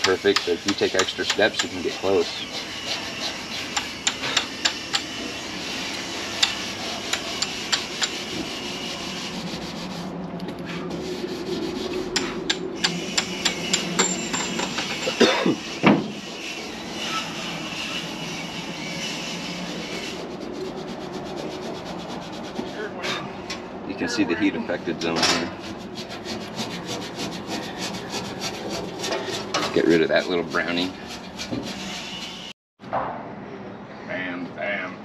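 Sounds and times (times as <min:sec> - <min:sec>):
scouring pad rubbing metal: 0:00.0 - 0:12.4, 0:13.0 - 0:23.0, 0:25.0 - 0:32.5.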